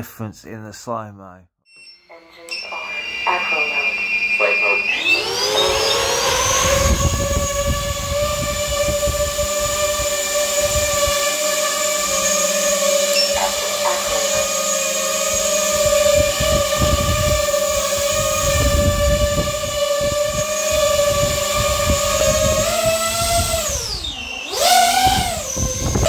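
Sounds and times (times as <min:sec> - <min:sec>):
drone motors whistling: 0:01.7 - 0:26.0.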